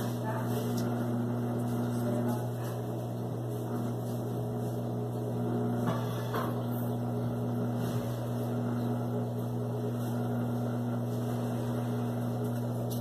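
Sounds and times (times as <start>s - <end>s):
washing machine electric hum: 0.0s - 13.0s.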